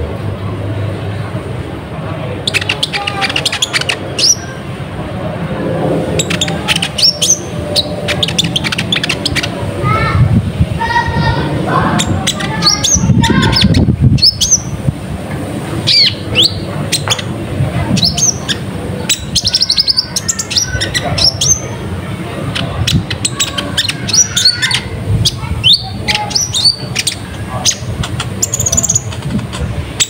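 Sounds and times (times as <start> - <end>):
sunbird chirping and twittering: 2.2 - 4.8, 5.9 - 15.0, 15.7 - 30.0.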